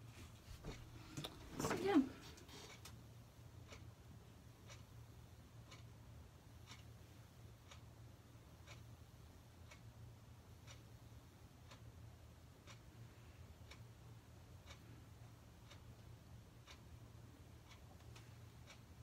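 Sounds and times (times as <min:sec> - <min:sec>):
low steady hum: 0:00.0 - 0:19.0
clock ticking: 0:00.6 - 0:19.0.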